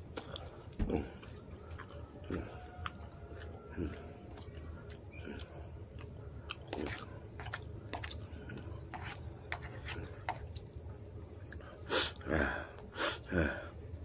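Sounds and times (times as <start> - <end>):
low steady hum: 0.0 - 14.0
man chewing food: 0.0 - 14.0
wet mouth sounds: 0.1 - 13.7.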